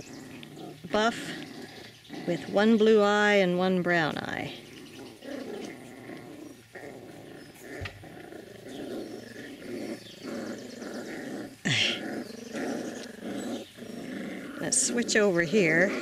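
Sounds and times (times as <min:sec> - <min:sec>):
puppies growling: 0:00.0 - 0:16.0.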